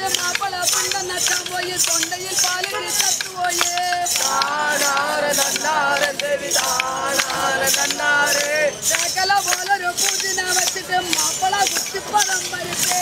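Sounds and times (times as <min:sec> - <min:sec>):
group singing in unison: 0:00.0 - 0:13.0
rattling jingle: 0:00.0 - 0:13.0
sharp clacks: 0:00.0 - 0:13.0.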